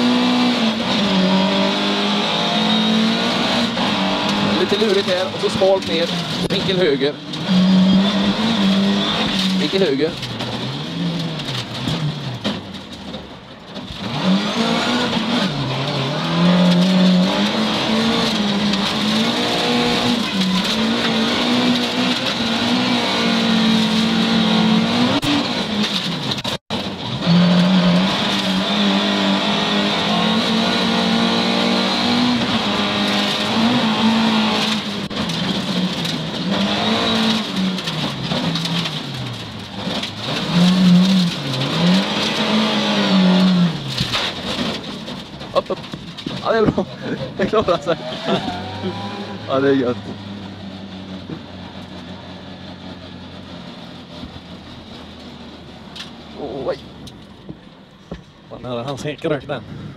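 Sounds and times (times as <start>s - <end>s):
car engine revving and shifting: 0.0s - 58.4s.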